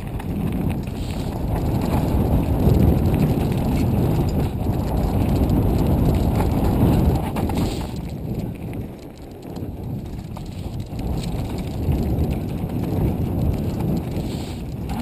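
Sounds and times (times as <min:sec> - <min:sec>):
bike tyre noise and rattles: 0:00.0 - 0:15.0
wind rumbling on microphone: 0:00.0 - 0:15.0.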